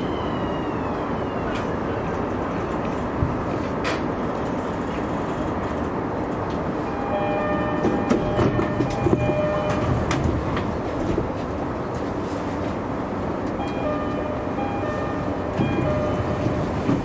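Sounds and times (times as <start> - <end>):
electric train rumbling: 0.0 - 17.0
wheels clacking on rails: 1.5 - 17.0.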